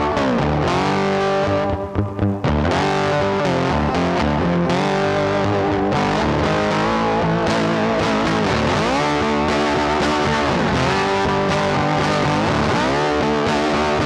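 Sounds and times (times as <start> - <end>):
guitar background music: 0.0 - 14.0.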